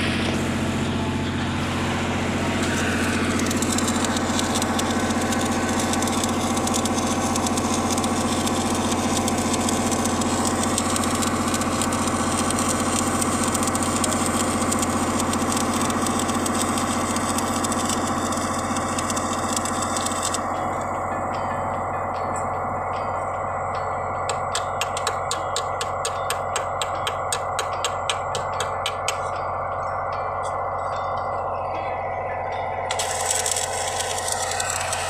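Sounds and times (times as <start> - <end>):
machine humming with low drone: 0.0 - 35.0.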